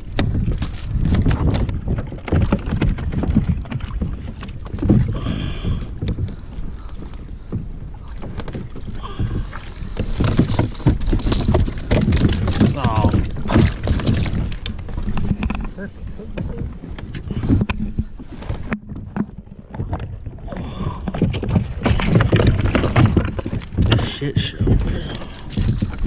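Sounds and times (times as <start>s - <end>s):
water splashing against kayak hull: 0.0s - 26.0s
wind buffeting microphone: 0.0s - 26.0s.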